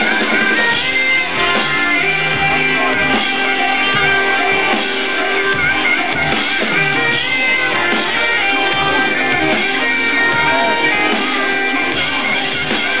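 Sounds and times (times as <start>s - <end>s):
loud live electronic dance music: 0.0s - 13.0s.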